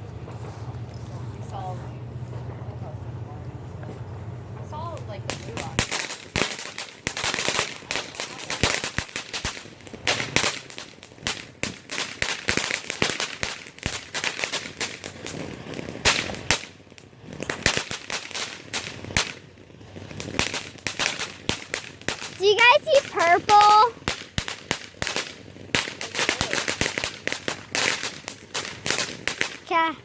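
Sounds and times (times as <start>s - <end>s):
fireworks popping and crackling: 0.0s - 30.0s.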